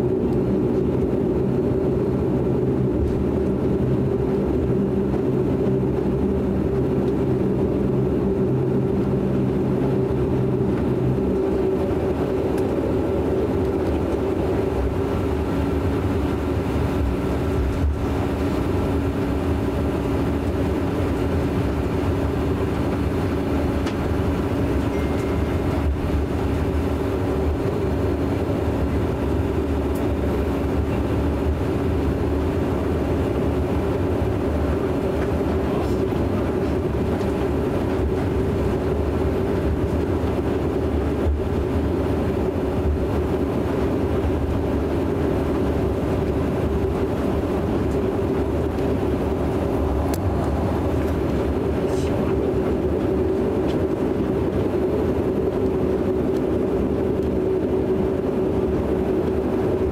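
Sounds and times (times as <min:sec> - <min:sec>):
lower hum: 0:00.0 - 0:59.9
steady engine tone: 0:00.0 - 0:59.9
turboprop engines droning: 0:00.0 - 0:59.9.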